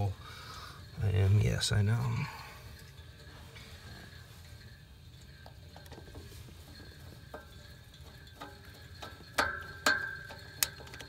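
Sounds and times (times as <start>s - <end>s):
sharp metal clinks: 0.0s - 11.0s.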